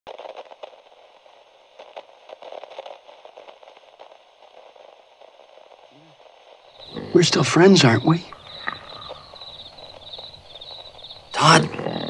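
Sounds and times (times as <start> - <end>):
crackling static: 0.1 - 12.0.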